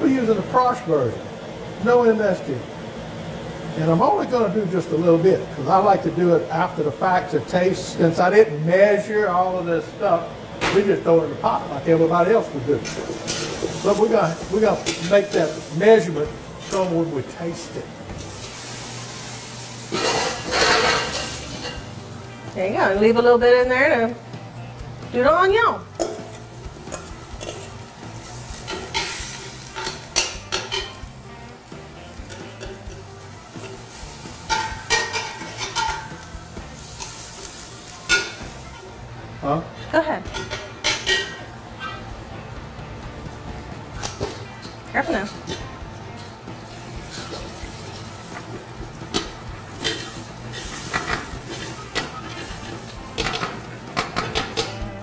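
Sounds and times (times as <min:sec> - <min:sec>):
onions sizzling in butter: 0:00.0 - 0:55.0.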